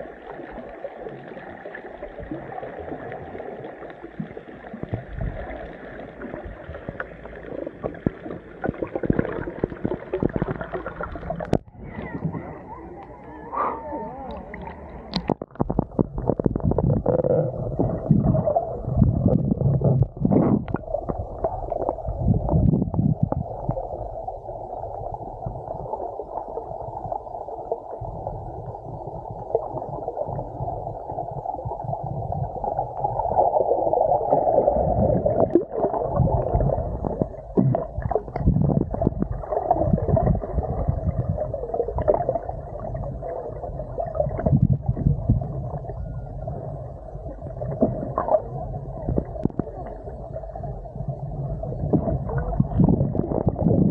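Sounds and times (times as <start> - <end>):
muffled underwater rumbling: 0.0 - 53.9.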